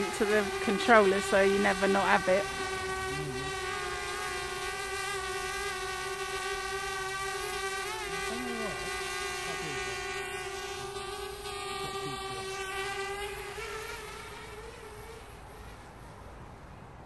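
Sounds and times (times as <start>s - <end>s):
drone propellers buzzing whine: 0.0s - 16.3s.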